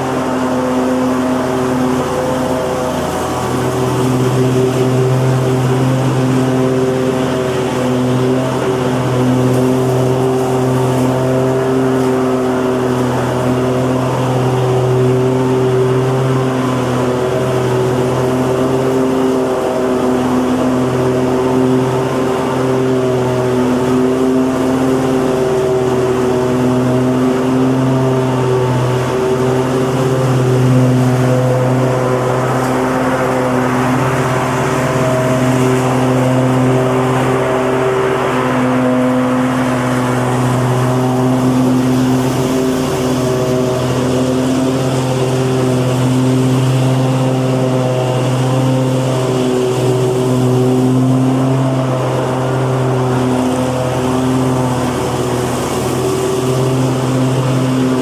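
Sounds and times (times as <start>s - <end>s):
lawnmower engine running: 0.0s - 58.0s.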